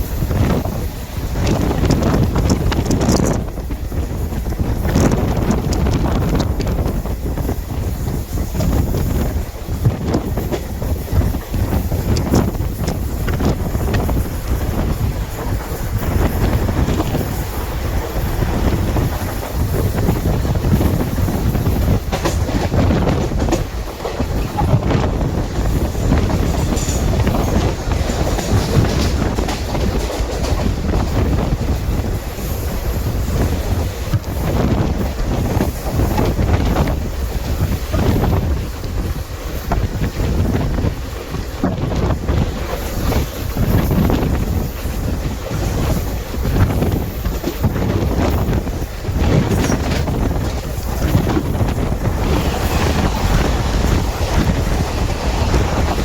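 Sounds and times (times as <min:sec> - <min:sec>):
train rumbling: 0:00.0 - 0:56.0
train wheels clacking: 0:00.0 - 0:56.0
wind buffeting microphone: 0:00.0 - 0:56.0.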